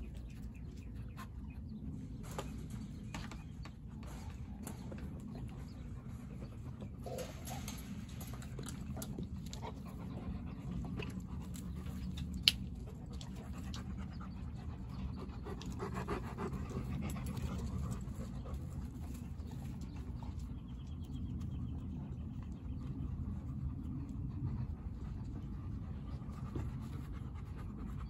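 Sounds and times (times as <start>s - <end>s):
dogs panting: 0.0s - 28.0s.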